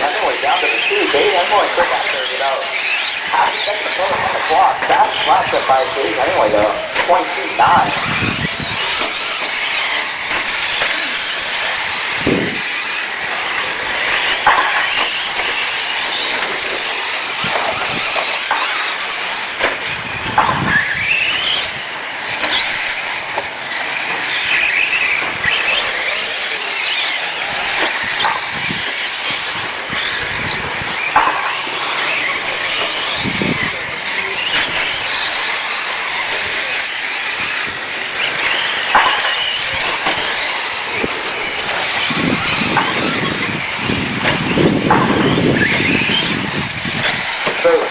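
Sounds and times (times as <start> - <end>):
electric motors whining: 0.0 - 47.9.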